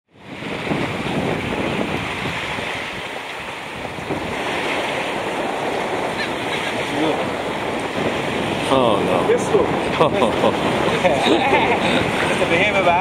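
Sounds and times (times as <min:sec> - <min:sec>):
surf washing along shore: 0:00.1 - 0:13.0
wind buffeting microphone: 0:00.1 - 0:13.0.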